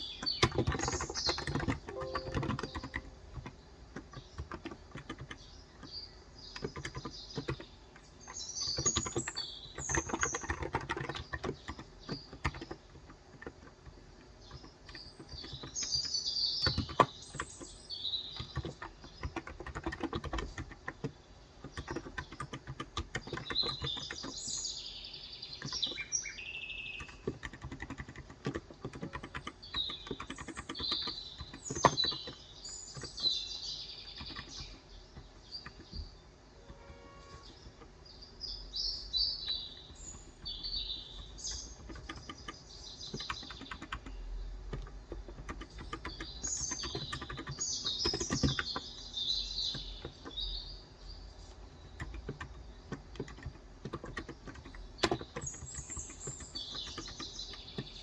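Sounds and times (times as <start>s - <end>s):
birds chirping: 0.0s - 13.7s, 14.4s - 58.0s
keyboard typing: 0.0s - 24.7s, 25.5s - 26.1s, 26.9s - 38.0s, 39.1s - 58.0s.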